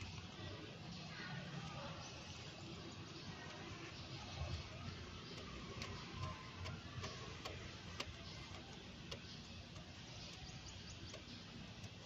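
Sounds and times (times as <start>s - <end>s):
faint light clicks and ticks: 1.6s - 12.0s.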